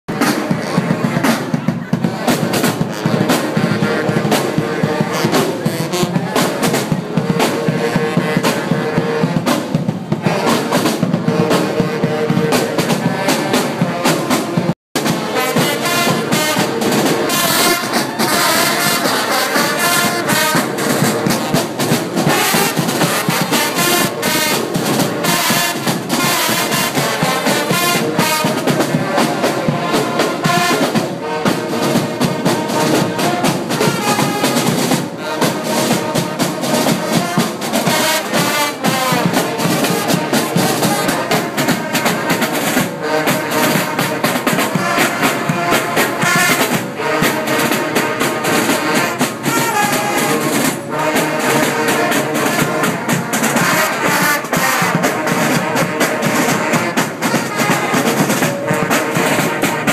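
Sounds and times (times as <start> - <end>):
marching band brass: 0.0 - 59.9
drums beating: 0.1 - 59.9.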